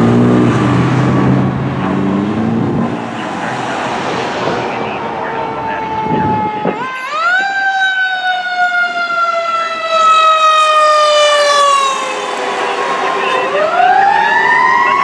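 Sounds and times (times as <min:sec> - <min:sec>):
fire engine siren: 0:02.7 - 0:15.0.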